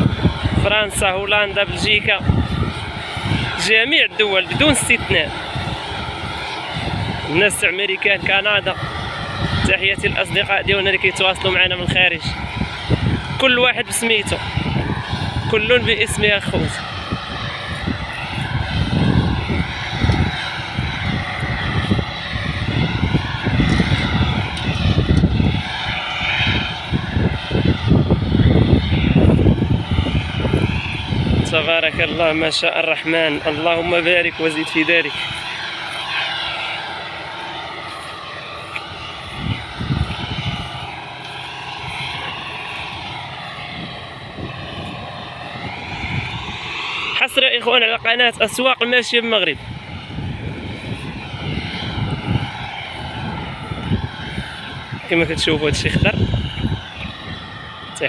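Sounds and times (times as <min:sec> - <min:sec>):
combine harvester whine: 0:00.0 - 0:58.0
wind rumbling on microphone: 0:00.0 - 0:58.0.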